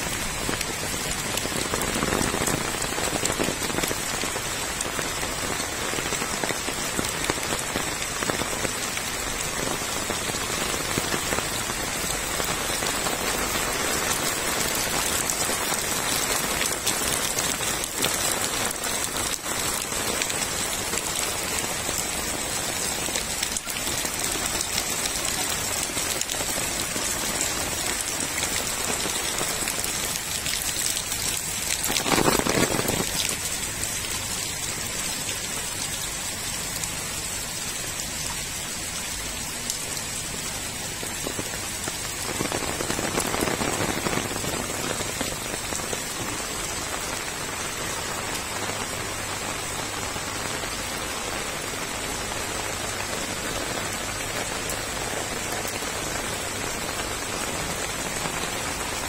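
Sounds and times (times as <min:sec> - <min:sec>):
heavy rain on standing water: 0:00.0 - 0:59.0.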